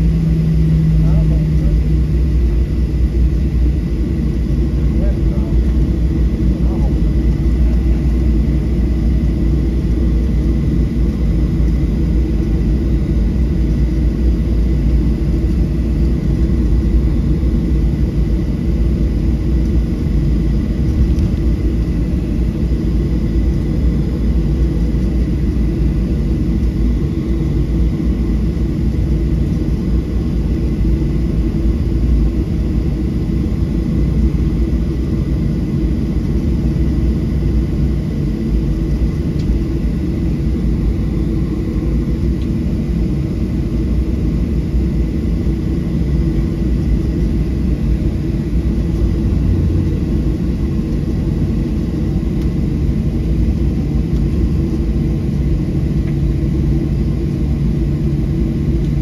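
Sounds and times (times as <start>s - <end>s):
jet cabin low rumble: 0.0s - 59.0s.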